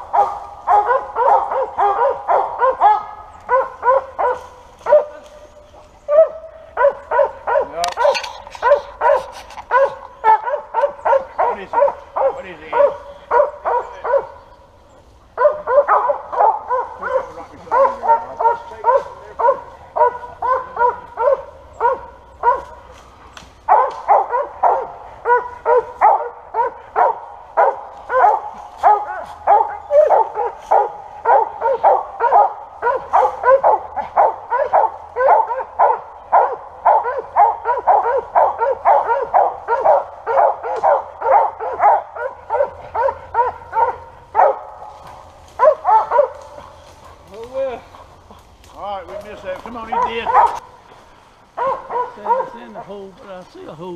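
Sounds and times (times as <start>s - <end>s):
dog barking: 0.0s - 14.4s, 15.4s - 23.0s, 23.6s - 50.8s, 51.6s - 53.0s.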